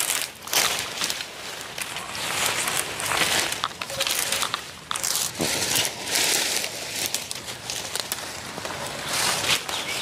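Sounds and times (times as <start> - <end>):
dry vines and twigs crackling: 0.0 - 10.0.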